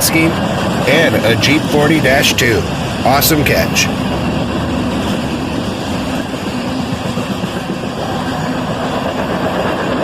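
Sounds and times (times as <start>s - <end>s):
freight train wheels on rails: 0.0s - 10.0s.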